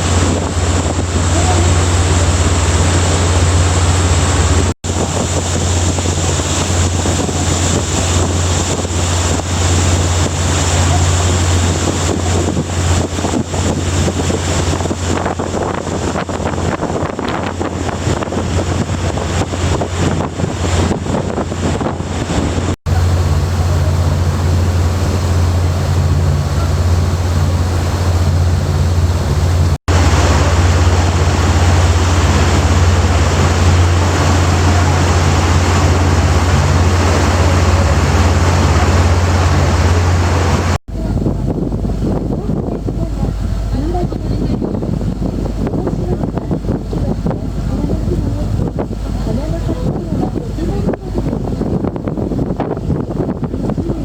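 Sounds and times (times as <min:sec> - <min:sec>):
boat engine droning: 0:00.0 - 0:54.0
water rushing past hull: 0:00.0 - 0:54.0
wind buffeting microphone: 0:00.0 - 0:54.0.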